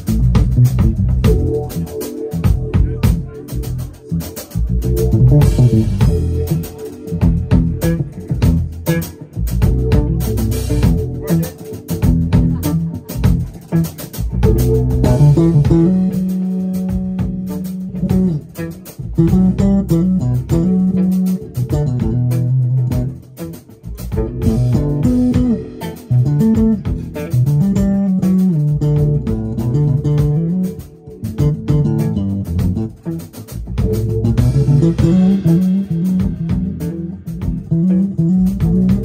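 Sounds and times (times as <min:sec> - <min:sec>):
electric bass melodic line: 0:00.0 - 0:39.0
funk jazz band playing: 0:00.0 - 0:39.0.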